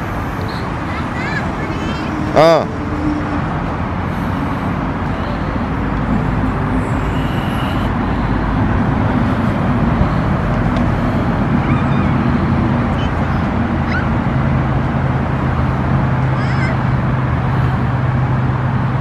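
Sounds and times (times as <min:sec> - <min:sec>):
low rumbling outdoor background: 0:00.0 - 0:19.0.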